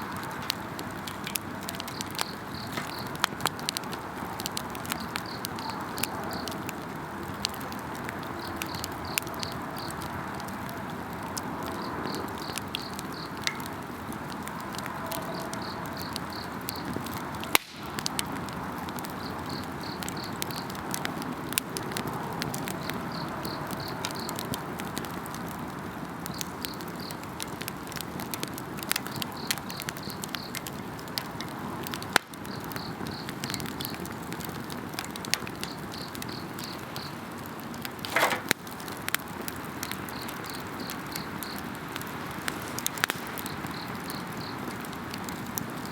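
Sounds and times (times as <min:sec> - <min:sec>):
campfire crackling: 0:00.0 - 0:45.9.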